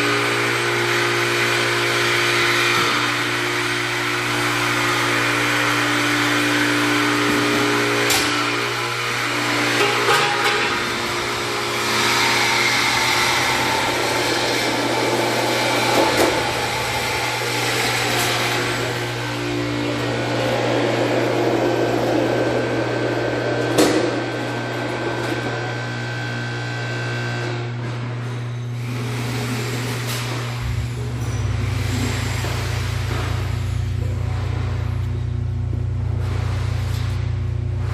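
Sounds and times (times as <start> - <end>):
power tool cutting metal pipe: 0.0 - 27.6, 28.7 - 35.1.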